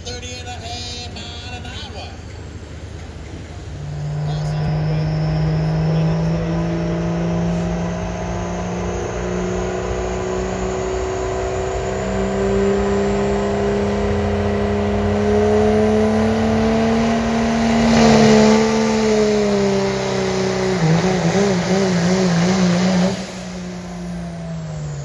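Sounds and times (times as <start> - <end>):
diesel engine working under load: 0.0 - 25.0.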